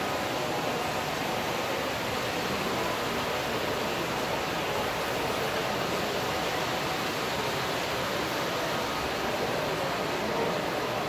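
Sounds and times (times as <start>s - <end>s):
ventilation hiss in indoor hall: 0.0s - 11.0s.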